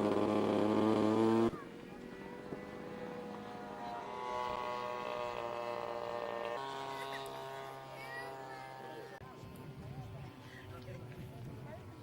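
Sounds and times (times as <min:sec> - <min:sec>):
model aircraft engine running: 0:00.0 - 0:12.0.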